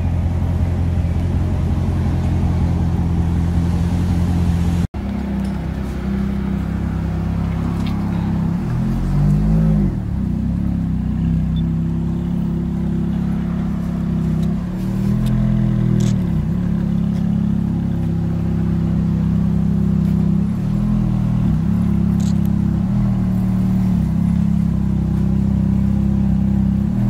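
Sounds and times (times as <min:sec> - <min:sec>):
car engine idling and revving: 0:00.0 - 0:27.0.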